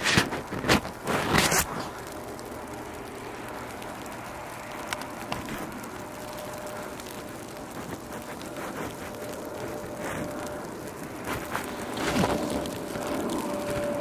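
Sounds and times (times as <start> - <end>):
faint ticks: 0.4 - 14.0
low outdoor background hiss: 1.8 - 14.0
faint steady tone: 1.9 - 14.0.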